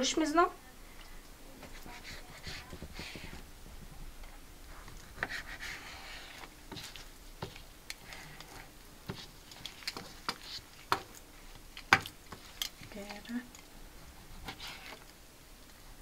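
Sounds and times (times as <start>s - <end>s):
soft rubbing of meat: 1.5s - 15.2s.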